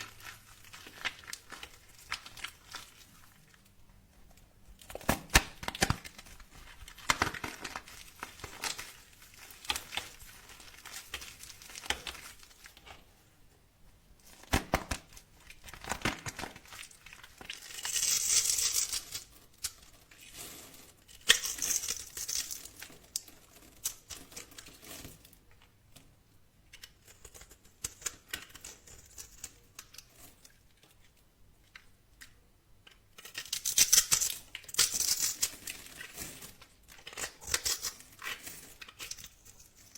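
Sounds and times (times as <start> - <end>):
crackling crinkling and tearing: 0.0 - 13.2, 14.2 - 39.9.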